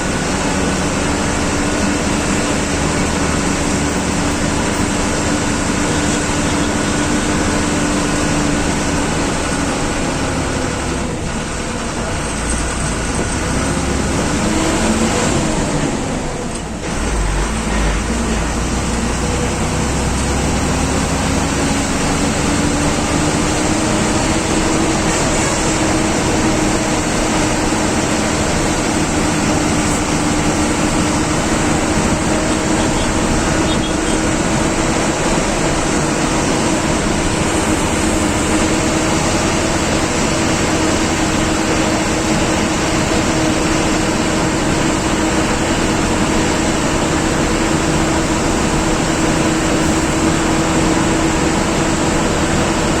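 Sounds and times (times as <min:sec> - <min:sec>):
bus diesel engine running: 0:00.0 - 0:53.0
road and cabin noise: 0:00.0 - 0:53.0.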